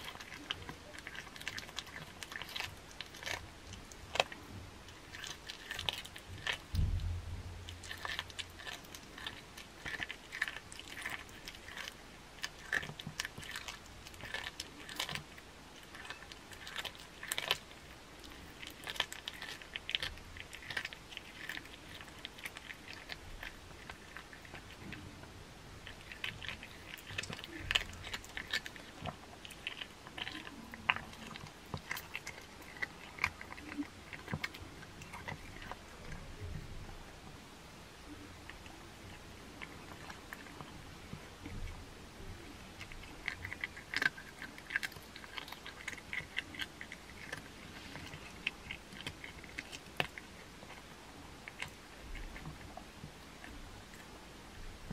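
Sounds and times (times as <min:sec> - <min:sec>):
cat crunching bone: 0:00.0 - 0:37.3, 0:38.1 - 0:54.9.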